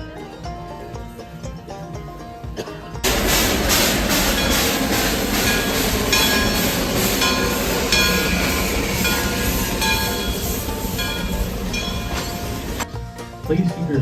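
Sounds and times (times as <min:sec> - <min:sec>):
steam train chugging: 0:00.1 - 0:14.0.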